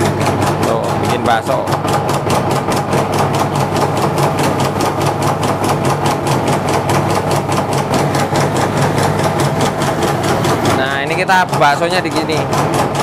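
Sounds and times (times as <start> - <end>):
fast even machine clatter: 0.0 - 13.0
machine motor hum: 0.0 - 13.0.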